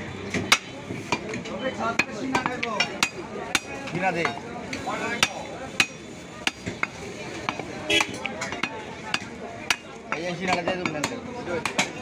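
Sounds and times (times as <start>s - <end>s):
indistinct voices: 0.0s - 12.0s.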